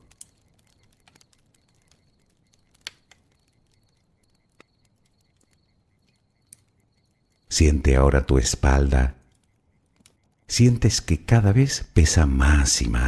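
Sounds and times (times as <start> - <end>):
campfire crackling and popping: 0.0 - 11.4.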